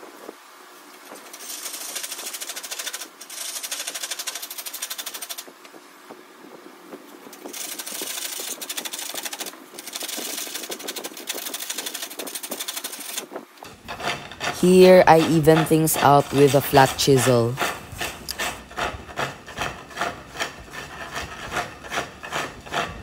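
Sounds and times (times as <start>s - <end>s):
turning tool cutting spinning wood: 1.0s - 5.5s, 7.2s - 23.0s.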